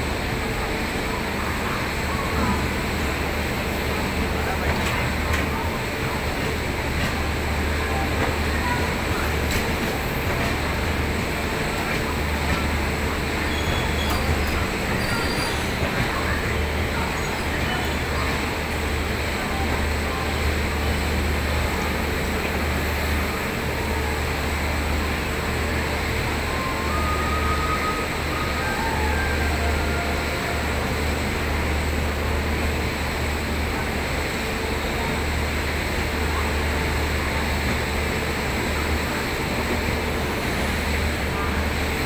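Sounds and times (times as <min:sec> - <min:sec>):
train rolling past: 0:00.0 - 0:42.0.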